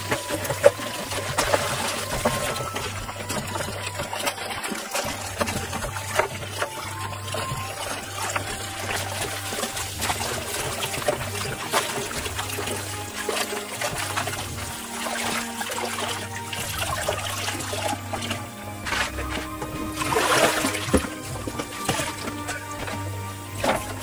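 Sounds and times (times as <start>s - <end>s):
hands swishing leaves in water: 0.0s - 24.0s
small water splashes: 0.0s - 24.0s
tap water running into bowl: 0.0s - 24.0s.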